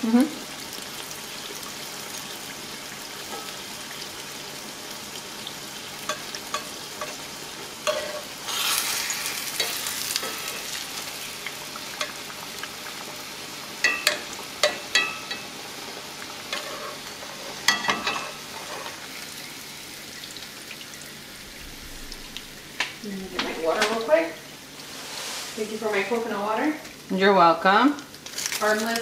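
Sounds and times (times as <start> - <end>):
taco shell sizzling in hot oil: 0.0 - 29.0.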